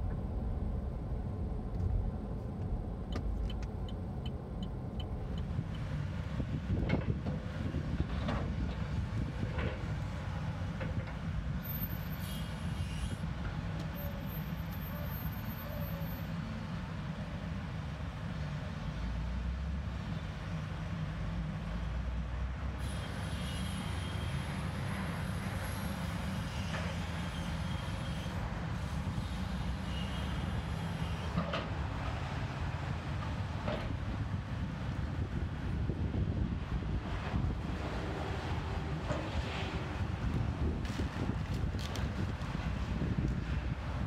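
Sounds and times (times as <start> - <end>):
road and engine rumble in car: 0.0 - 44.0.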